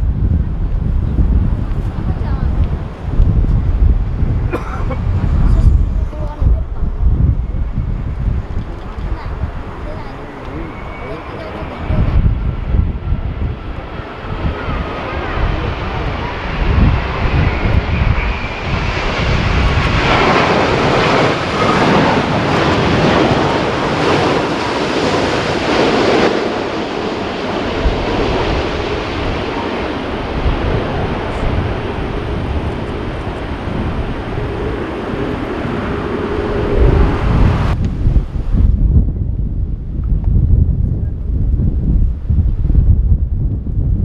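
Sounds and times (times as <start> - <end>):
jet engines passing: 0.0 - 39.9
wind buffeting microphone: 0.0 - 44.0.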